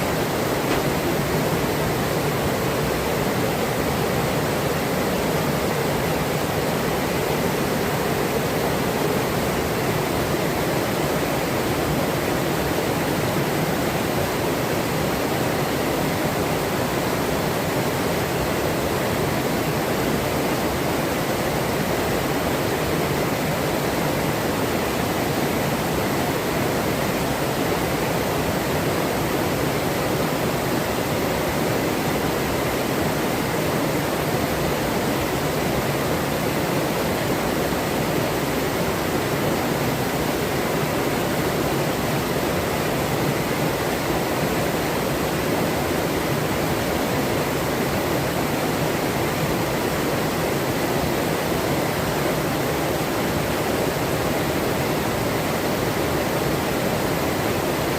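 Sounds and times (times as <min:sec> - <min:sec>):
river flowing: 0:00.0 - 0:57.9.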